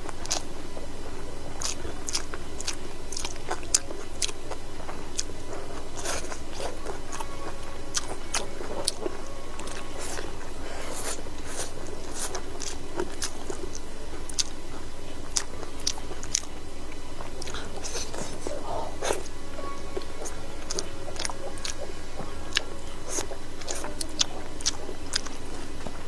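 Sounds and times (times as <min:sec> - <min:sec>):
person chewing crunchy food: 0:00.0 - 0:26.0
steady low hum: 0:00.0 - 0:26.0.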